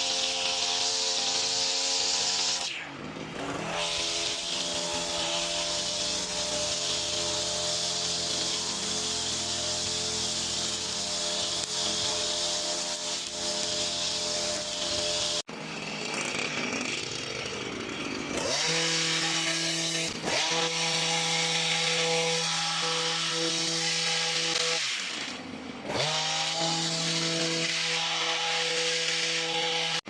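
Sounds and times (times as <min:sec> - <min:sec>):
garden trimmer whining: 0:00.0 - 0:30.0.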